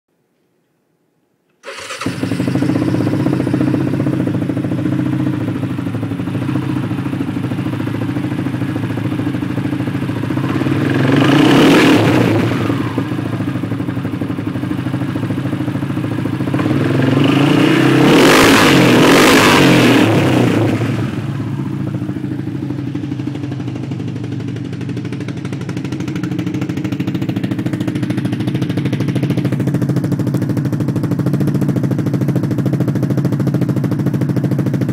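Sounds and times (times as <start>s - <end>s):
single-cylinder engine idling and revving: 1.6s - 34.9s.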